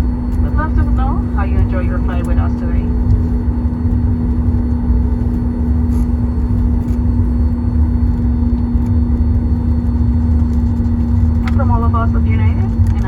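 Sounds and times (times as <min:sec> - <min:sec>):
aircraft cabin rumble and hum: 0:00.0 - 0:13.0.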